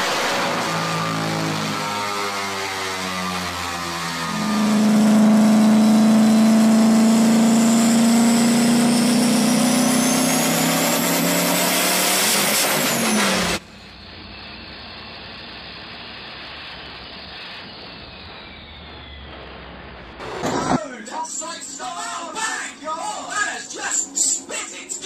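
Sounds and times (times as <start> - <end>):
diesel engine at full throttle: 0.0 - 25.0
high whine: 0.0 - 25.0.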